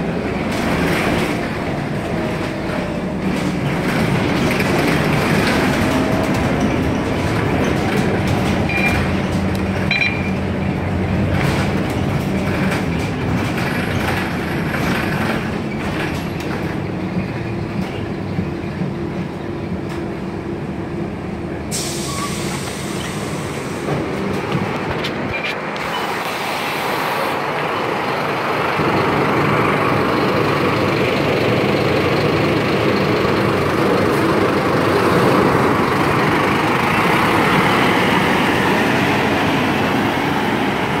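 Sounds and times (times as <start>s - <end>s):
bus diesel engine pulling away: 0.0s - 41.0s.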